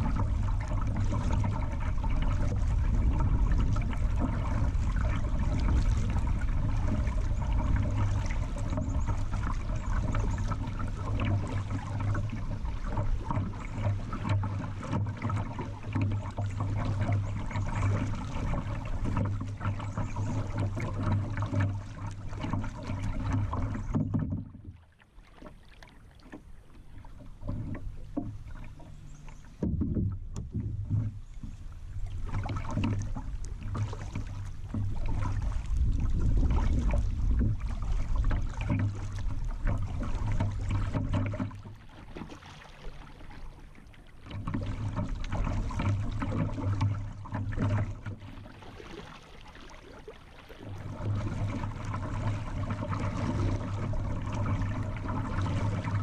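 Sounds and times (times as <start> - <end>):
paddle strokes dipping into water: 0.0 - 56.0
river water rushing against hull: 0.0 - 56.0.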